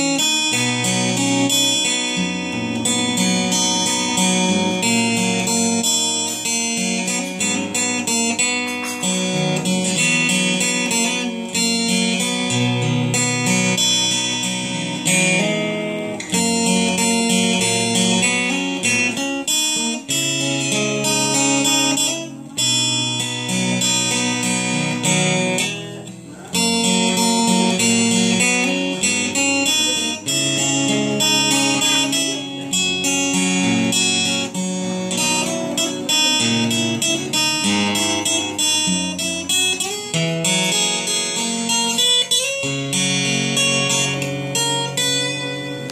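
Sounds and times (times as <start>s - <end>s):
acoustic guitar strummed chords: 0.0s - 45.9s.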